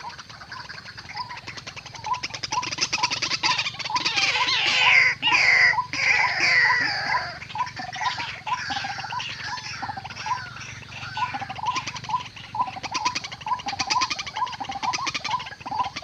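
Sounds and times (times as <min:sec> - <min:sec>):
fast rattling chatter: 0:00.0 - 0:16.0
squealing bird calls: 0:00.0 - 0:16.0
waterhen calling: 0:00.0 - 0:16.0.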